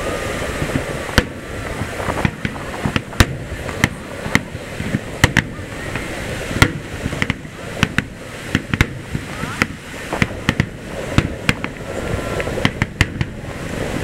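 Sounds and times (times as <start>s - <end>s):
steady background noise: 0.0s - 14.0s
firework shells bursting: 0.6s - 13.4s.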